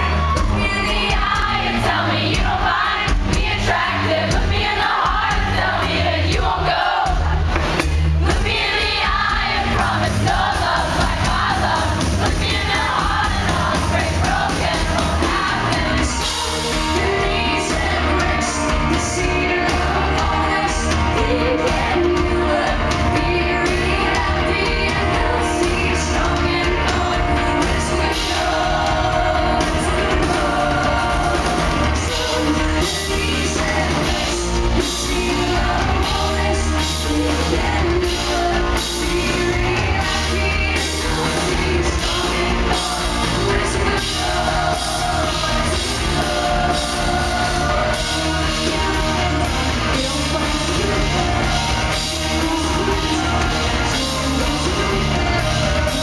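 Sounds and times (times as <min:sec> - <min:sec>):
woman singing: 0:00.0 - 0:07.1, 0:08.2 - 0:56.0
crowd singing and shouting along: 0:00.0 - 0:56.0
live indie rock song: 0:00.0 - 0:56.0.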